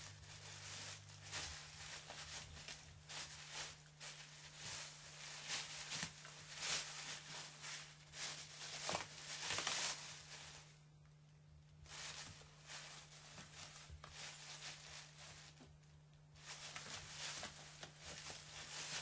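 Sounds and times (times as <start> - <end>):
shredded paper rustling: 0.0 - 10.8, 11.8 - 15.8, 16.4 - 19.0.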